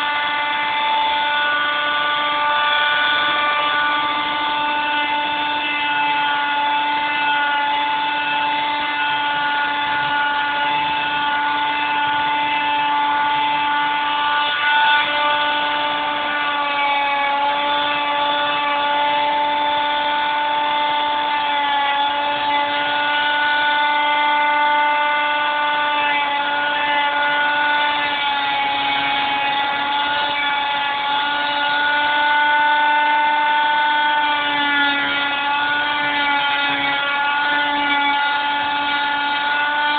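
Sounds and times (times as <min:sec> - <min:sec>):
electric grinder grinding wood: 0:00.0 - 0:39.9.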